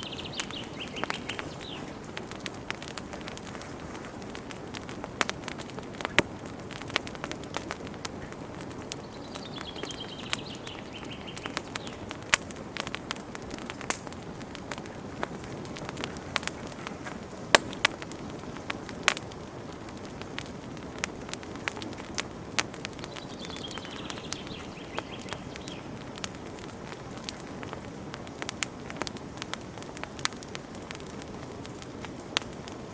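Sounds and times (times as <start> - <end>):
campfire flames rushing: 0.0 - 32.9
fire popping and crackling: 0.0 - 32.9.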